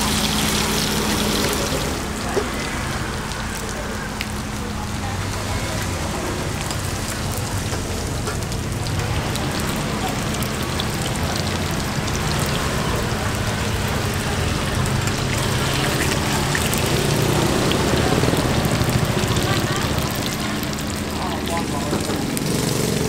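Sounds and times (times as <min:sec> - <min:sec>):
indistinct voices: 0:00.0 - 0:23.0.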